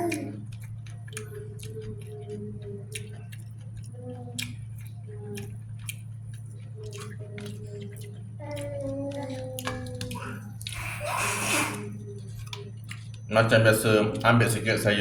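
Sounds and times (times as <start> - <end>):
crunchy chewing: 0.0 - 15.0
faint background music: 0.0 - 15.0
steady low hum: 0.0 - 15.0.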